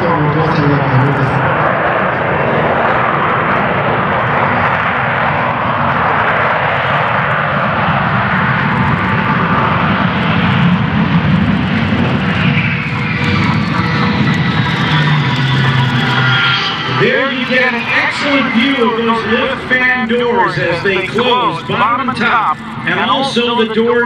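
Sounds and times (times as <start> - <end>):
high whine gliding down: 0.0 - 24.0
jet engine running loud: 0.0 - 24.0.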